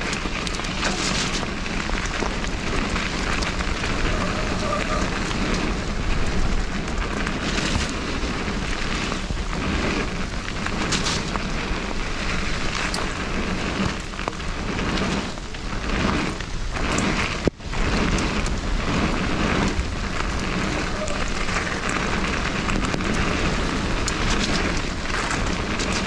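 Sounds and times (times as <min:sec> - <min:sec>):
bike rattling over bumps: 0:00.0 - 0:26.0
tyres crunching over wet dirt: 0:00.0 - 0:26.0
wind rushing on microphone: 0:00.0 - 0:26.0.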